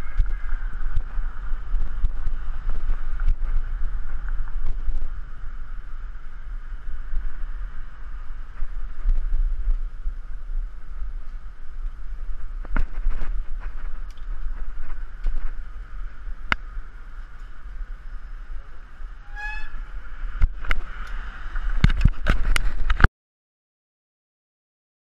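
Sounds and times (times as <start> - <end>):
wind buffeting microphone: 0.0 - 23.1.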